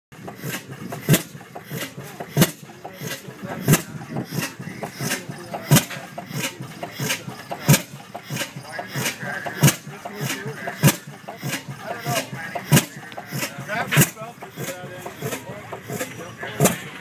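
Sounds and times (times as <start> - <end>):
faint engine beats: 0.1 - 17.0
gas engine exhaust bangs: 0.2 - 17.0.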